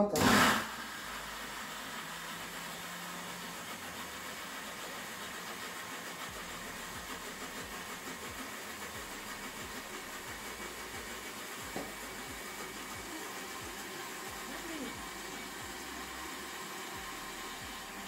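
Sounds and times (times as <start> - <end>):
blender running: 0.0 - 18.0.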